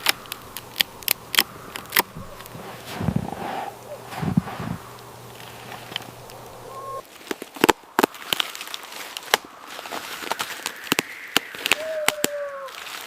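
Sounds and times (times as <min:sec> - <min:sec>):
sharp snaps and crackles: 0:00.0 - 0:13.0.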